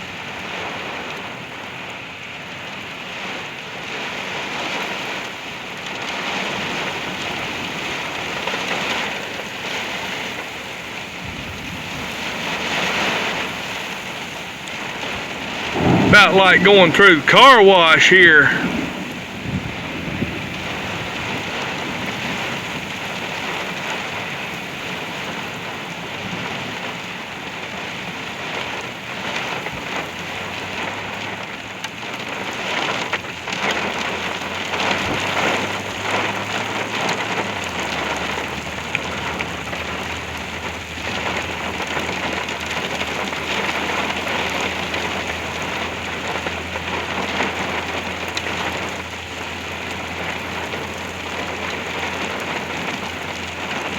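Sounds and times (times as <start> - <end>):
heavy rain drumming on a truck: 0.0 - 53.9.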